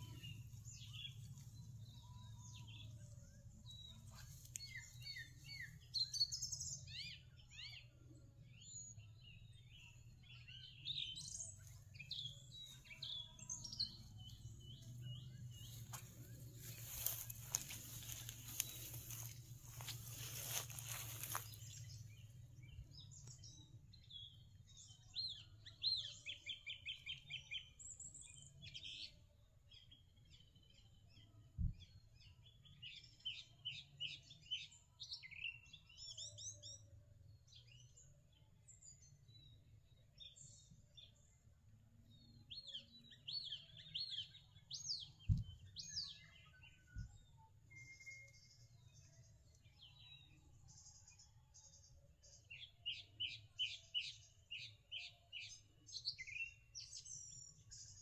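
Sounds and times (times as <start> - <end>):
birds chirping and singing: 0.0 - 41.4, 42.0 - 58.0.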